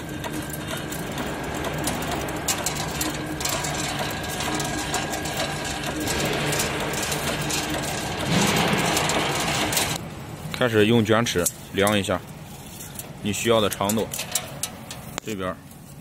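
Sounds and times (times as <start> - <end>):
machine clattering: 0.0 - 10.6, 11.2 - 15.2.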